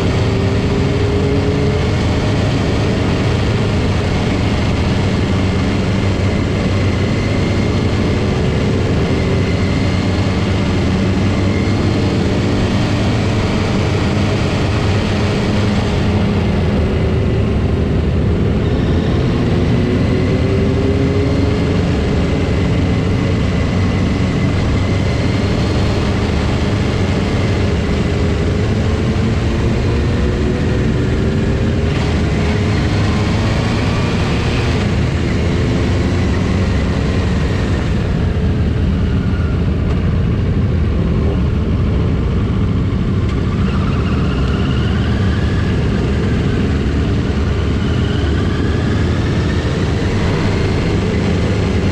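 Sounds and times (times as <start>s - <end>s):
motorcycle engines running: 0.0s - 51.9s.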